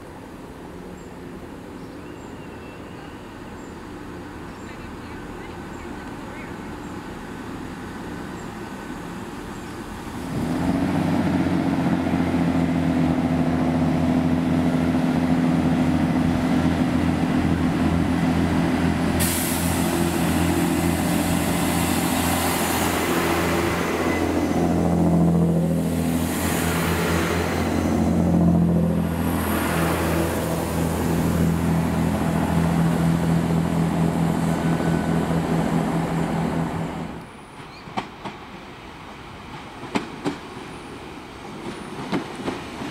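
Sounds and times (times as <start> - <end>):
diesel train engine drone: 0.0 - 42.9
wheel and rail noise: 0.0 - 42.9.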